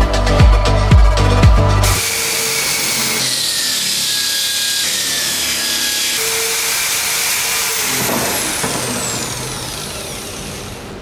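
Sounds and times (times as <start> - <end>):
abrasive wheel grinding wood: 0.1 - 11.0
faint drill motor whine: 2.0 - 11.0.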